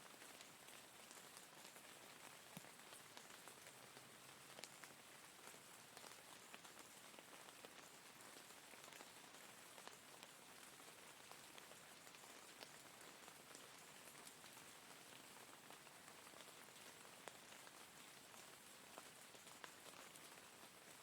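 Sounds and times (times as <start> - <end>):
raindrops ticking on a surface: 0.0 - 21.0
soft hiss of rainfall: 0.0 - 21.0.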